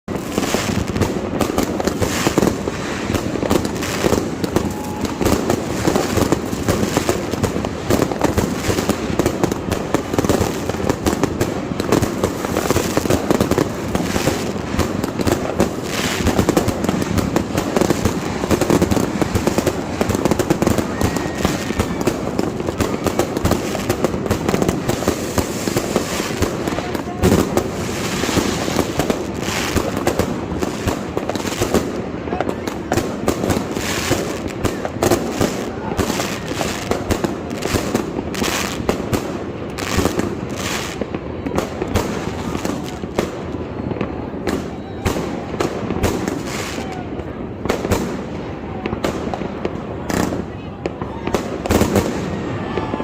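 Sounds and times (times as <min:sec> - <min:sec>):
fireworks banging and crackling: 0:00.0 - 0:53.0.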